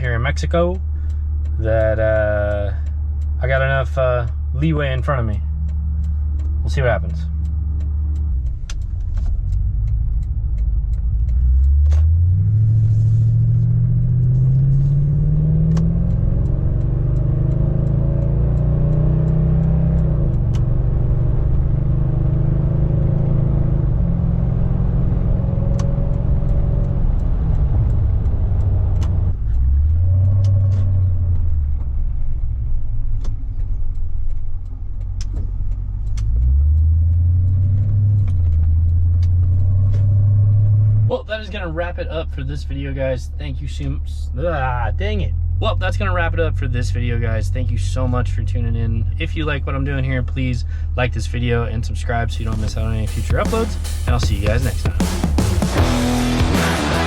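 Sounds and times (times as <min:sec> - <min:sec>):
truck engine revving while driving: 0:00.0 - 0:57.0.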